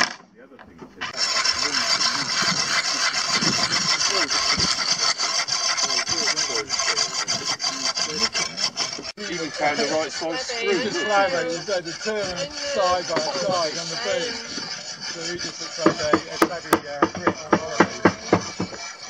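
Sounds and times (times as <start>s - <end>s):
tool scraping a surface: 0.0s - 19.0s.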